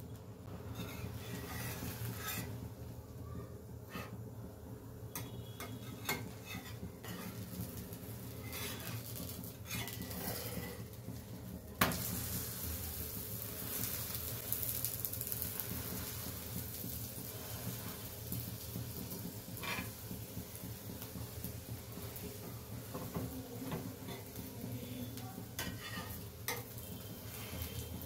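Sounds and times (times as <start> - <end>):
flatbread sizzling on griddle: 0.4 - 4.2, 5.1 - 28.0.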